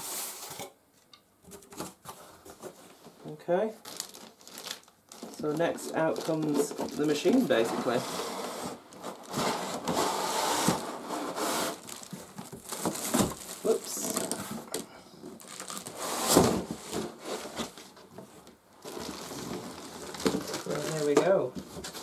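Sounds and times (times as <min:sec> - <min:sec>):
cardboard packaging rustling: 0:03.7 - 0:22.0.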